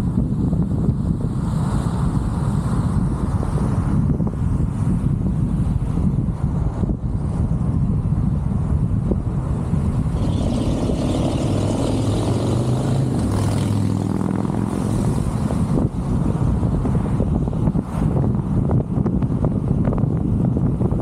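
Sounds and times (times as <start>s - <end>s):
road and traffic noise: 0.0s - 21.0s
vehicle engine hum: 0.0s - 21.0s
wind rushing over microphone: 0.0s - 21.0s.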